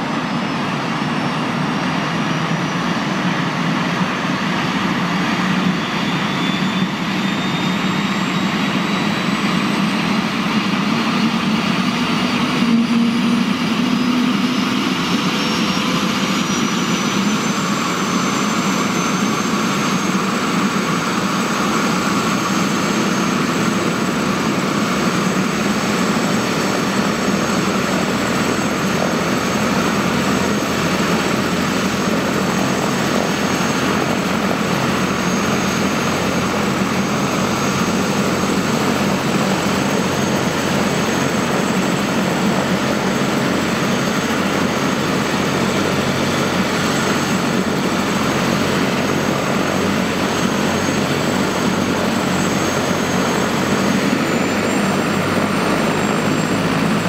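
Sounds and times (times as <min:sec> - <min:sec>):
helicopter engine and rotor: 0:00.0 - 0:57.0
high turbine whine: 0:00.0 - 0:57.0.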